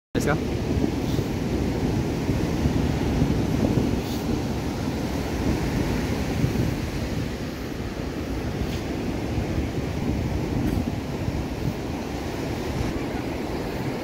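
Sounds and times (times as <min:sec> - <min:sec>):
surf washing up a shore: 0:00.2 - 0:14.0
wind buffeting microphone: 0:00.2 - 0:14.0.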